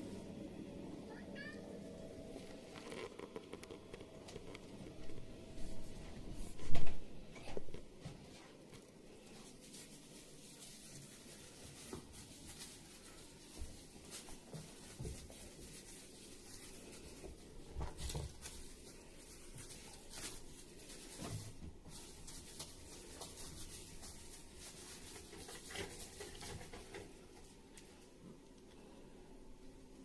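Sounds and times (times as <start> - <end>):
rustling and scratching: 2.4 - 29.0.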